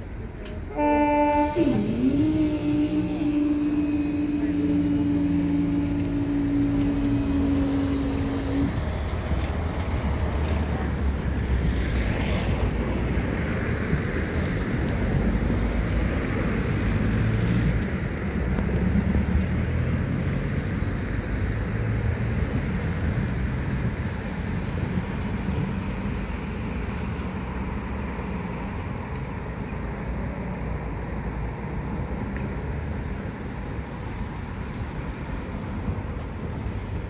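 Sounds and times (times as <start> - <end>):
rail vehicle engine running: 0.0 - 37.0.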